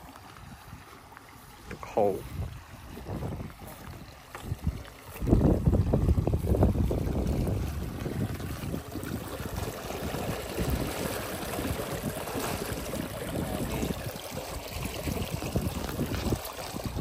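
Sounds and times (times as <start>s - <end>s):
water rushing and churning: 0.0s - 17.0s.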